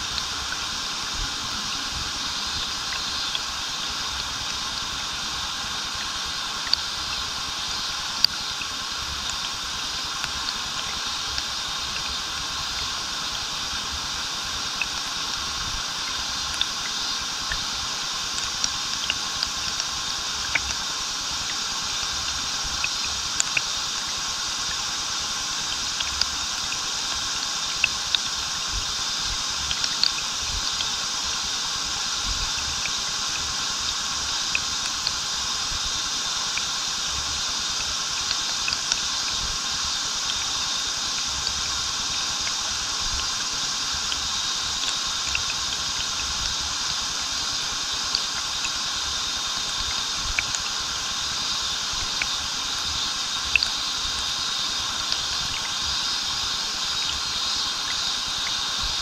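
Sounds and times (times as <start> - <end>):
cicadas buzzing: 0.0 - 59.0
waterfall pouring into a pool: 0.0 - 59.0.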